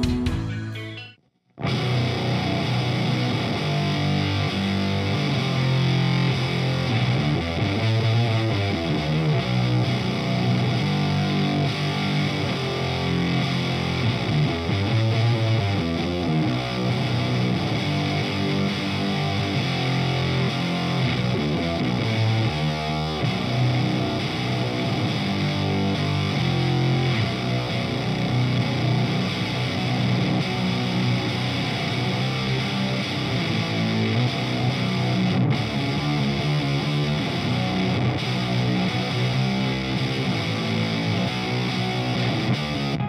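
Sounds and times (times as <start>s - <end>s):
distorted electric guitar riff: 0.0s - 43.0s.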